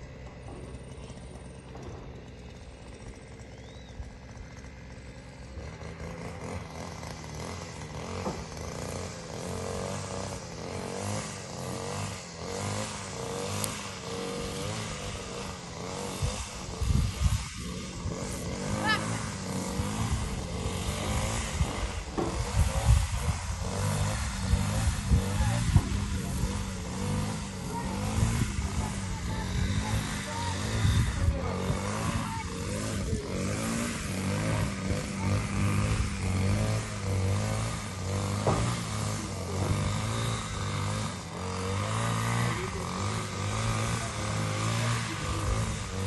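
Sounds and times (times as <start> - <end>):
small engine running: 0.0 - 46.0.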